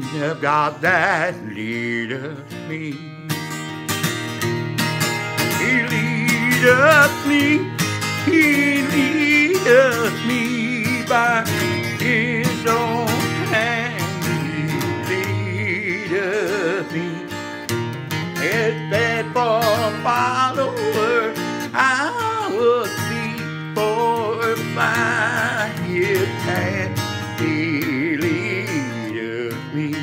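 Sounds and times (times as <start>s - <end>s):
person singing with vibrato: 0.0s - 3.5s, 5.4s - 17.6s, 18.2s - 30.0s
acoustic guitar strumming: 0.0s - 30.0s.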